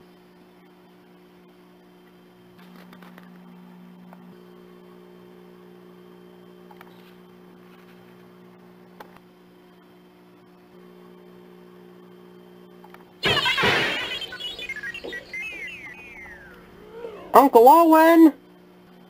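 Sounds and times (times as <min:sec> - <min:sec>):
low electrical mains hum: 0:00.0 - 0:19.0.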